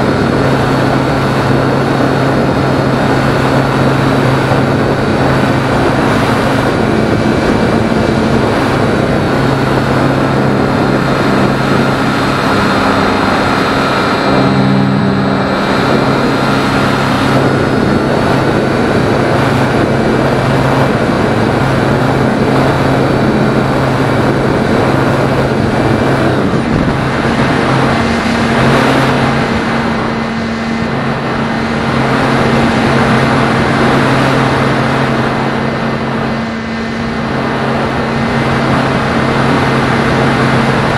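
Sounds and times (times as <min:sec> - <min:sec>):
air rushing over airframe: 0:00.0 - 0:40.9
electric motor and propeller hum: 0:00.0 - 0:40.9.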